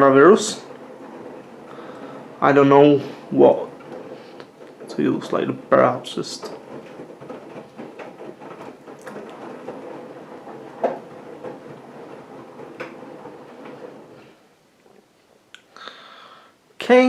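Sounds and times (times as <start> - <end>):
clicks and knocks: 0.0 - 2.5, 3.2 - 15.7
washing machine drum rumbling: 0.0 - 15.1.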